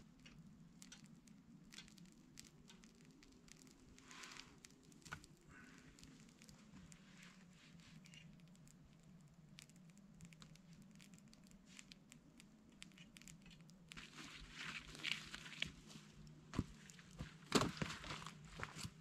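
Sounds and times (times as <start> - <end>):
faint ticks and pattering: 0.0 - 17.4.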